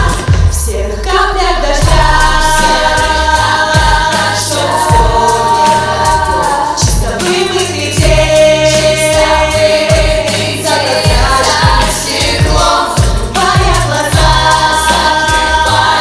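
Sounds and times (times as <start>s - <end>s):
children's choir singing: 0.0s - 16.0s
drum beats: 0.0s - 16.0s
steady bass line: 0.0s - 16.0s
instrumental backing track: 1.8s - 16.0s.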